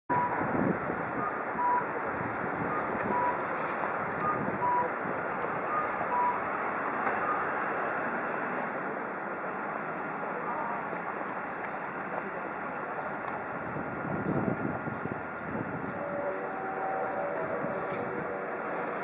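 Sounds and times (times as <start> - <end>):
city street traffic: 0.1 - 19.0.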